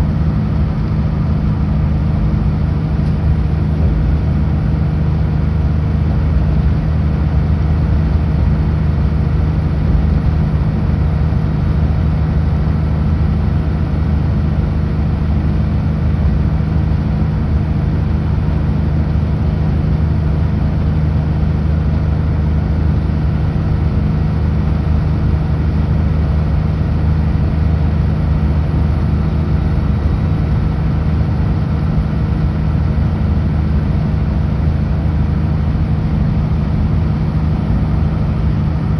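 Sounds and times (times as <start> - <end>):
truck diesel engine cruising: 0.0 - 38.9.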